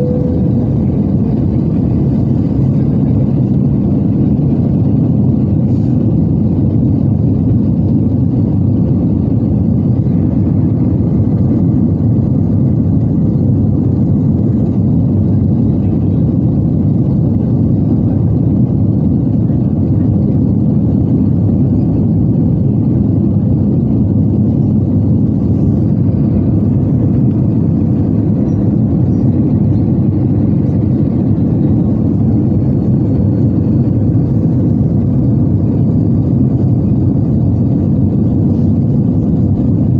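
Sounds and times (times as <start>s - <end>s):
airliner engine drone in cabin: 0.0s - 39.9s.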